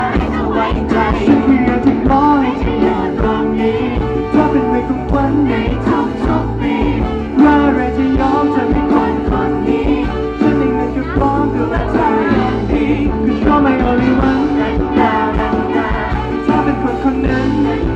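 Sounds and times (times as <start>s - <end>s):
loud backing music with beat: 0.0s - 17.9s
man singing: 0.0s - 17.9s.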